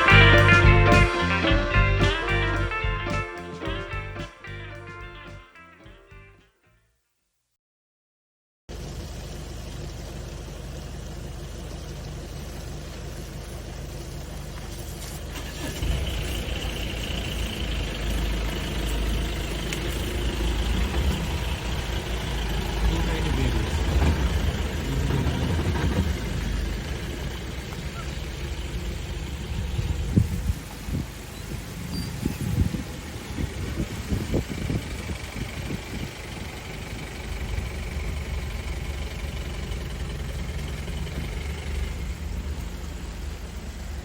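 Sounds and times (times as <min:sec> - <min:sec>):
vehicle engine rumbling: 0:00.0 - 0:06.3, 0:08.7 - 0:44.0.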